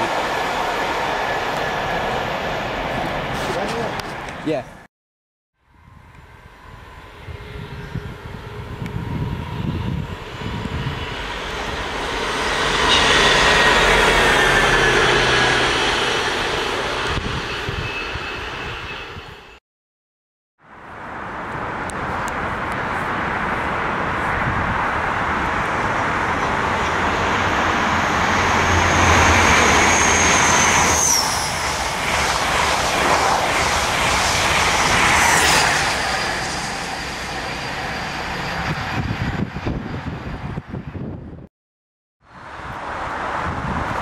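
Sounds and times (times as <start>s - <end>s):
diesel train passing: 0.0s - 4.9s, 5.6s - 19.6s, 20.6s - 41.5s, 42.3s - 44.0s.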